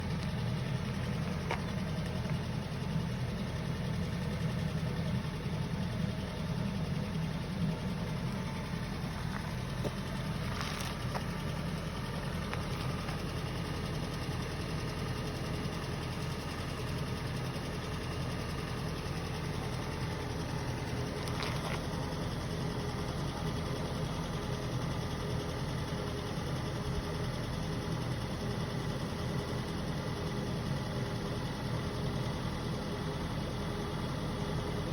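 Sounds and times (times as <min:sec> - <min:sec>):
car engine idling: 0:00.0 - 0:34.9
engine knocking: 0:00.0 - 0:34.9.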